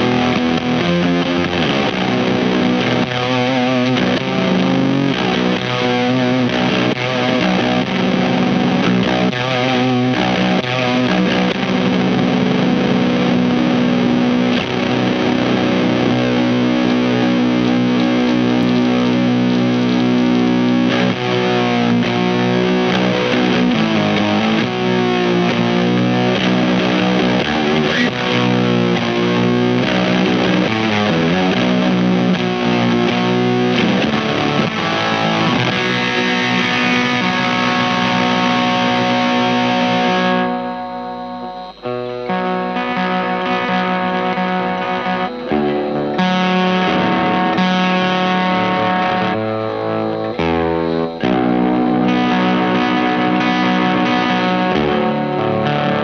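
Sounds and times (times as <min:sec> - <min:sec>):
fuzzed baritone electric guitar: 0:00.0 - 0:56.0.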